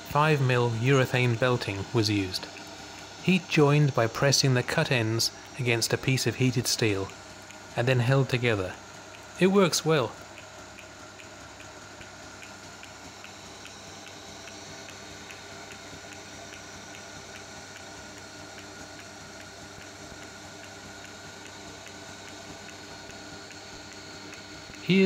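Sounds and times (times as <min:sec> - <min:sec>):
lathe humming with light ticks: 0:00.0 - 0:25.0.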